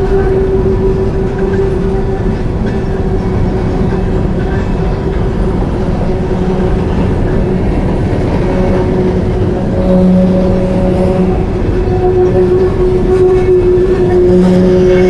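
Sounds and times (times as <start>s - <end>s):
low droning hum: 0.0s - 15.0s
train wheels rumbling on rails: 0.0s - 15.0s.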